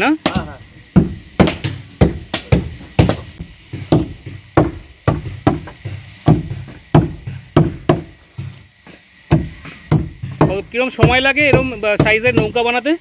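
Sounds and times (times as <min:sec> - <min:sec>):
hand tools striking timber: 0:00.2 - 0:12.8.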